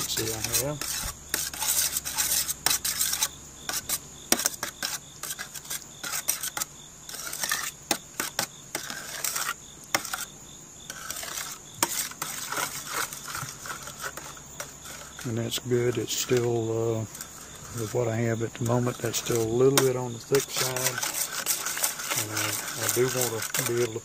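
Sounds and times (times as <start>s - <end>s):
spoon scraping metal pot: 0.0s - 10.3s, 10.9s - 24.0s.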